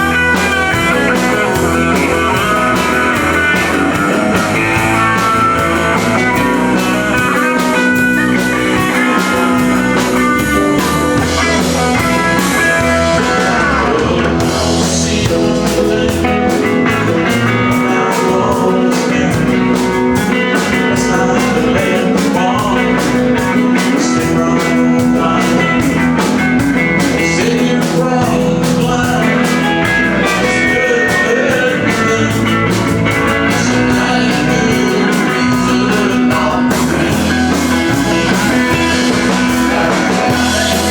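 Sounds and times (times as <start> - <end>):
country-rock band playing: 0.0 - 40.9
guitar: 0.0 - 40.9
steady drum beat: 0.0 - 40.9.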